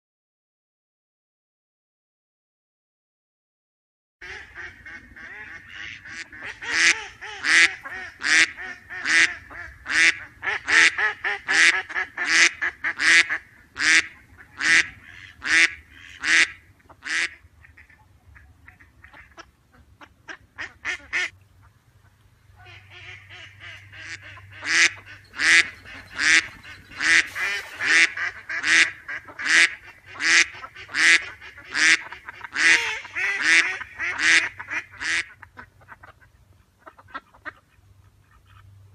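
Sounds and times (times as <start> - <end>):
ducks quacking loudly: 4.2 - 38.9
low steady hum: 4.2 - 38.9
soft quacking chatter: 4.2 - 38.9.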